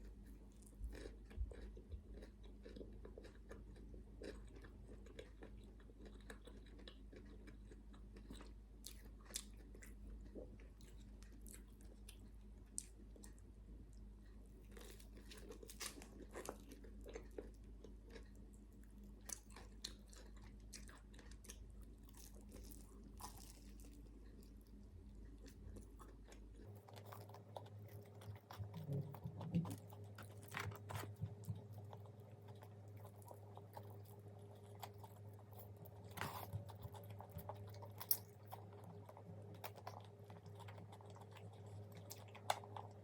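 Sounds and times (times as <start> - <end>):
person chewing crunchy food: 0.0 - 43.0
steady low hum: 0.0 - 43.0.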